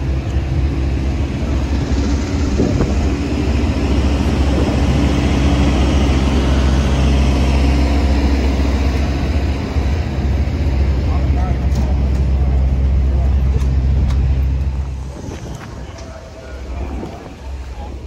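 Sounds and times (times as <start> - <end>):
engines droning: 0.0 - 18.0.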